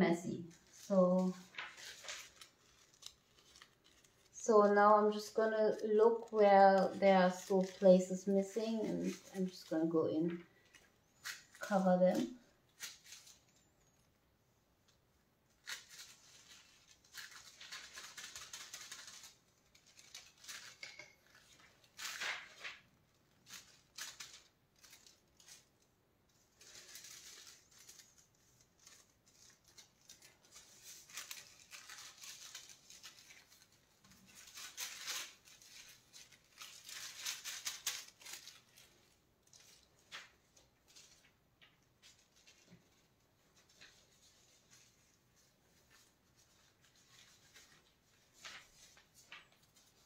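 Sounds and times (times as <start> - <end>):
metal leaf crinkling and rustling: 0.2 - 14.2, 14.8 - 50.0.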